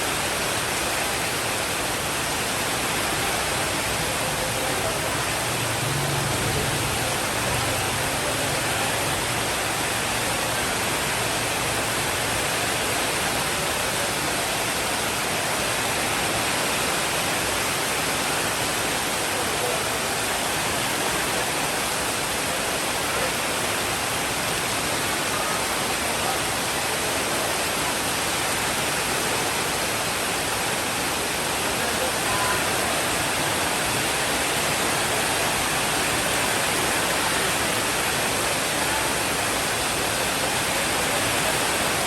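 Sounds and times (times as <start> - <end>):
steady rainfall: 0.0 - 42.0.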